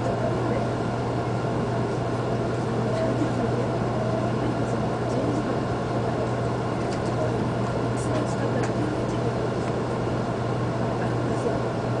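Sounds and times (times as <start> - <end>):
constant low hum: 0.0 - 12.0
train wheels and motors rumbling: 0.0 - 12.0.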